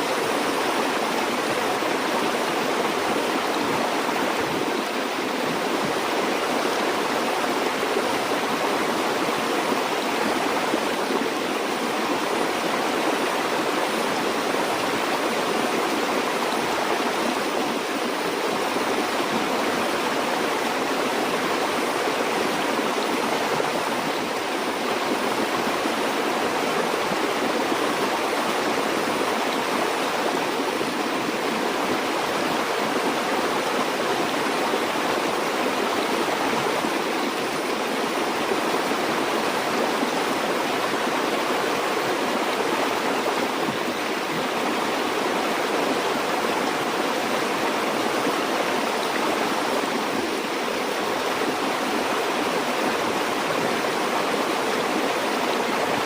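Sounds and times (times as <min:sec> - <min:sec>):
river water rushing over stones: 0:00.0 - 0:56.0.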